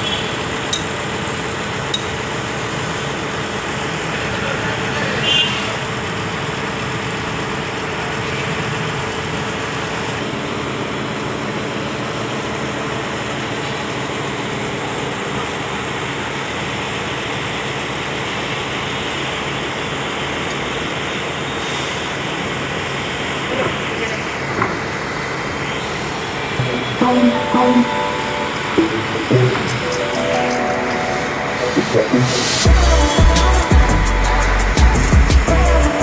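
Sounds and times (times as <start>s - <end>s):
heavy machinery engine drone: 0.0s - 36.0s.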